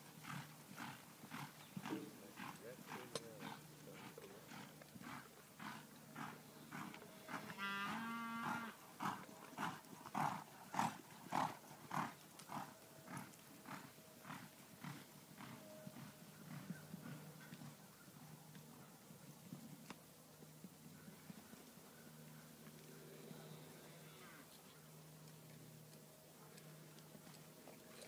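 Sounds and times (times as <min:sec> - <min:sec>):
hoofbeats on dirt: 0:00.0 - 0:23.8, 0:25.2 - 0:28.0.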